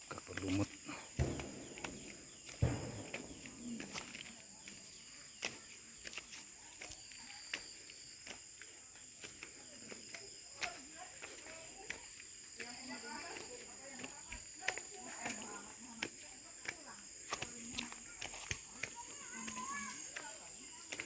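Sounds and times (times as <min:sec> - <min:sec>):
footsteps on rocky trail: 0:00.0 - 0:21.0
forest insects droning: 0:00.0 - 0:21.0.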